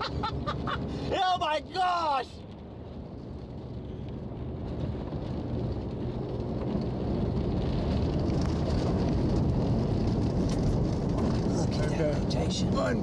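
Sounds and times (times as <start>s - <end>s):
car road and engine noise: 0.0s - 13.0s
rain ticking on windshield: 0.0s - 13.0s.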